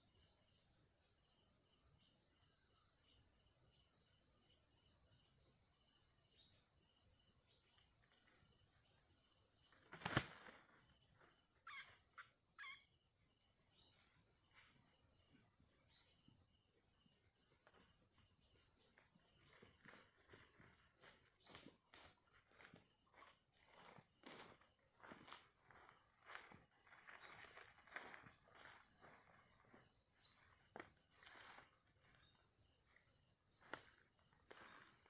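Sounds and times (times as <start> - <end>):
insects buzzing and chirping: 0.0 - 35.0.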